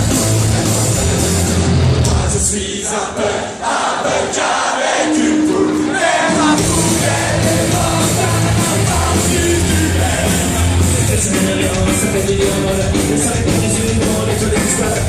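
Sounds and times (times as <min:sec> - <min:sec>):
live rock band playing: 0:00.0 - 0:02.6, 0:05.0 - 0:15.0.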